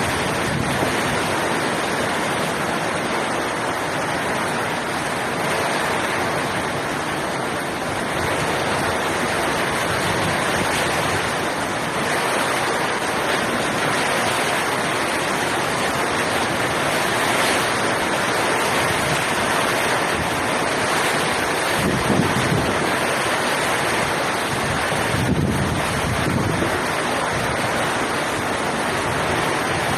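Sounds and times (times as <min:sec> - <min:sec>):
heavy rain pouring: 0:00.0 - 0:29.9
water rushing: 0:00.0 - 0:29.9.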